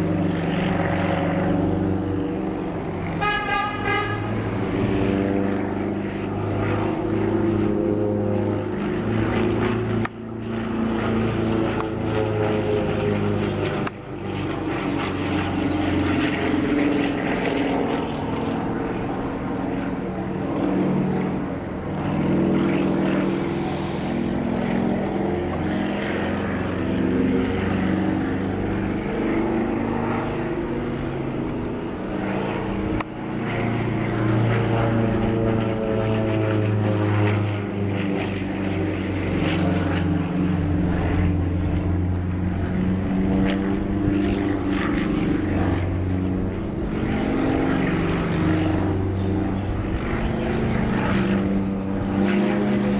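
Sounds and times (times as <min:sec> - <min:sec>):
propeller airplane engine: 0:00.0 - 0:52.9.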